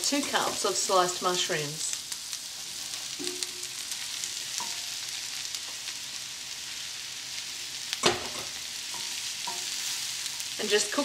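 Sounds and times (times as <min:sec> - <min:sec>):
onions and mushrooms sizzling: 0:00.0 - 0:11.0.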